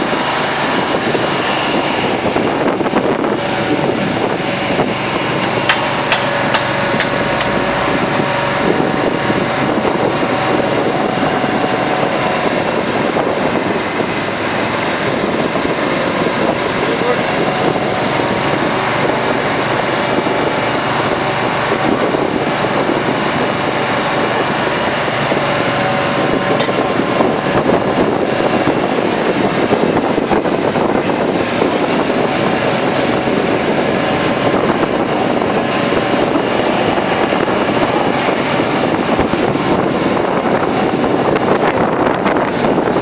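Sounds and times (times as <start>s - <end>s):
vehicle engines rumbling: 0.0s - 43.0s.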